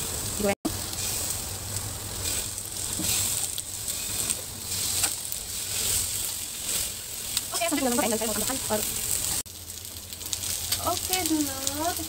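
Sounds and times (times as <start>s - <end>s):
chicken wings sizzling in a wok: 0.0s - 12.0s.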